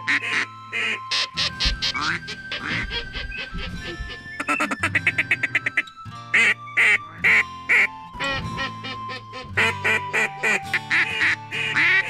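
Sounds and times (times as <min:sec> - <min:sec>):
background music: 0:00.0 - 0:12.0
duck quacks: 0:00.0 - 0:12.0.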